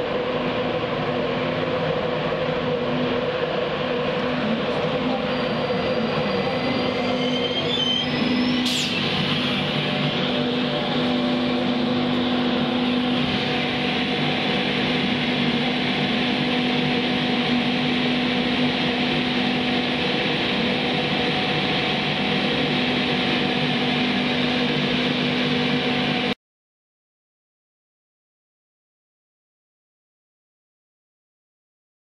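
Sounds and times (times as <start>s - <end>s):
electric locomotive humming: 0.0s - 26.4s.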